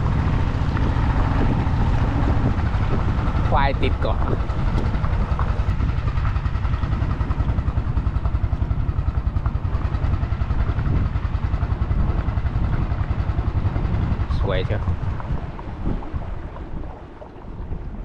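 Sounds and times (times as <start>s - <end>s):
boat engine puttering: 0.0s - 18.0s.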